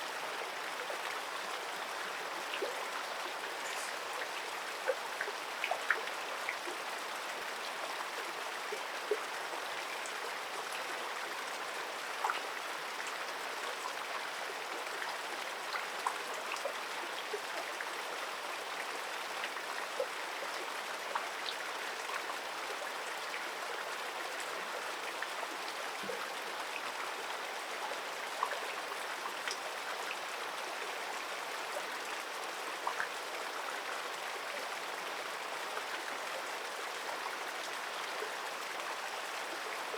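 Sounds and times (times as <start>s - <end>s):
faint ticks and drips: 0.0s - 39.9s.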